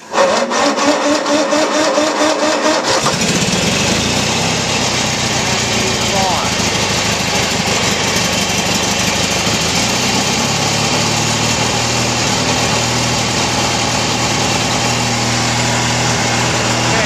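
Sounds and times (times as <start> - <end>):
lawn tractor engine running: 0.0 - 17.0.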